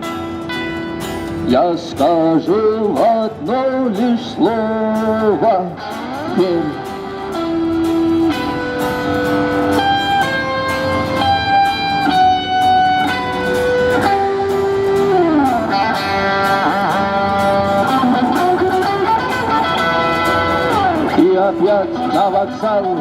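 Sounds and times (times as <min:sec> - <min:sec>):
electric guitar lead: 0:00.0 - 0:23.0.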